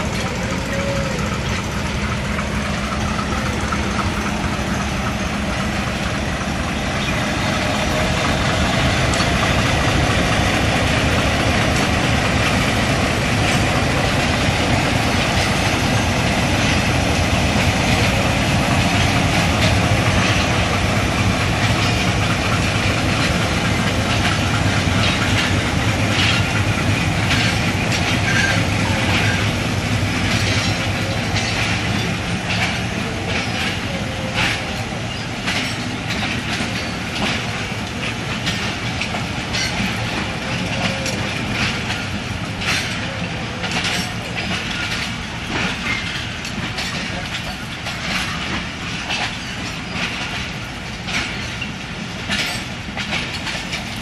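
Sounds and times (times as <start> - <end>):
diesel locomotive engine hum: 0.0 - 54.0
wheels clicking over rail joints: 0.0 - 54.0.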